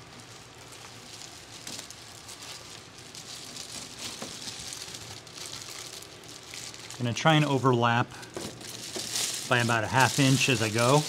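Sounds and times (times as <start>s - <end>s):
bubble foil crinkling: 0.0s - 11.0s.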